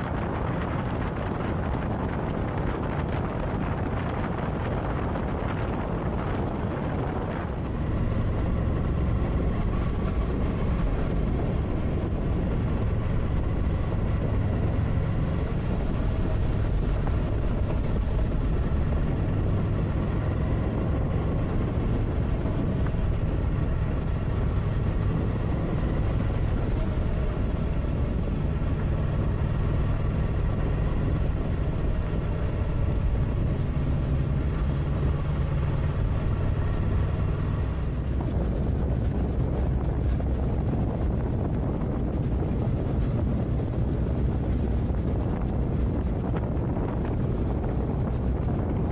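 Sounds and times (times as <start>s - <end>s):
motorcycle engine running: 0.0s - 48.9s
tyres on gravel road: 0.0s - 48.9s.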